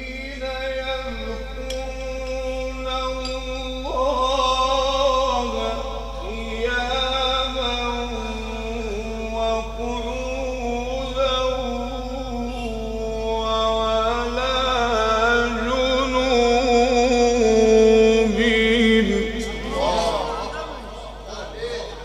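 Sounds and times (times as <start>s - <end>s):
man chanting melodically: 0.0s - 22.0s.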